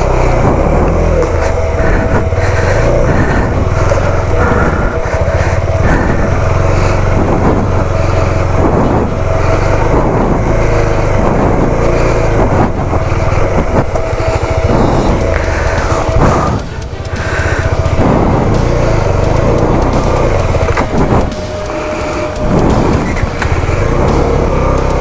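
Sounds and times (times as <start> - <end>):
motorcycle engine rumbling: 0.0 - 25.0.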